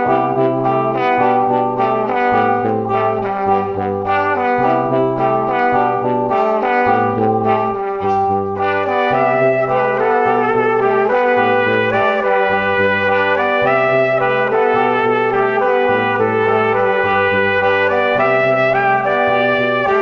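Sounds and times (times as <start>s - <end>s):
brass melody over bass line: 0.0s - 20.0s.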